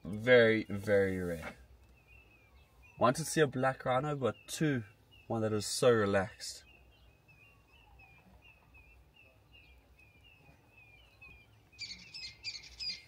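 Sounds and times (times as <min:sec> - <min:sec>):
rapid bright bird chirps: 0:00.0 - 0:13.0
high falling bird chirp: 0:00.1 - 0:13.0.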